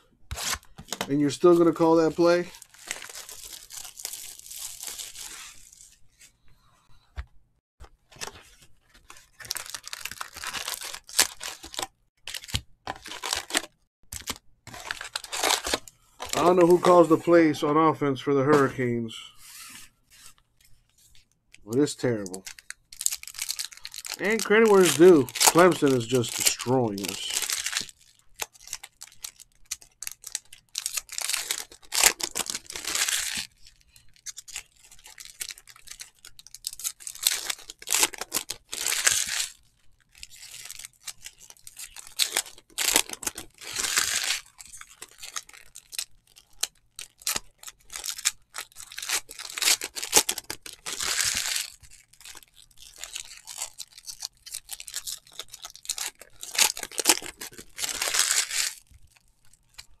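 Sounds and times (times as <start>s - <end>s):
wrappers tearing and crinkling: 0.3s - 6.0s, 8.2s - 17.3s, 21.6s - 60.0s.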